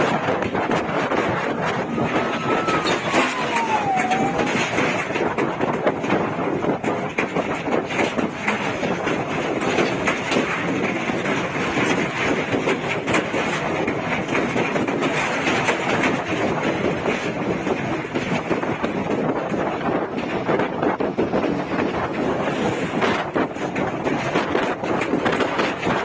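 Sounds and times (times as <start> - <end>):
vehicle rumbling: 0.0 - 26.0.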